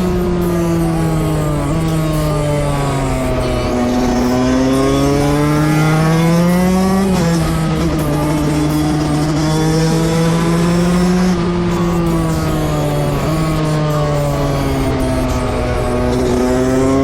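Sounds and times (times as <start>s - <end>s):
two-stroke dirt bike engine revving: 0.0s - 17.0s.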